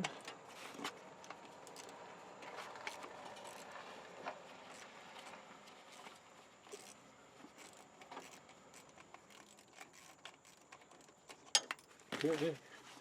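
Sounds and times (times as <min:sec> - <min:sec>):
wrench clicking and scraping metal: 0:00.0 - 0:03.8, 0:04.6 - 0:12.6.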